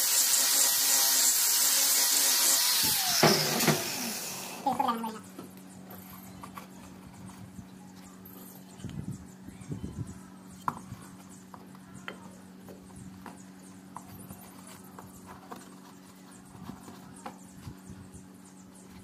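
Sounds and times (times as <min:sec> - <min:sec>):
steady low hum: 0:03.4 - 0:19.0.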